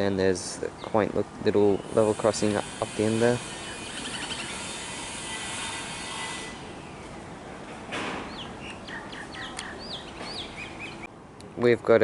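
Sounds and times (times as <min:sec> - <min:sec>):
birds chirping: 0:00.0 - 0:11.1
steady background hiss: 0:00.0 - 0:12.0.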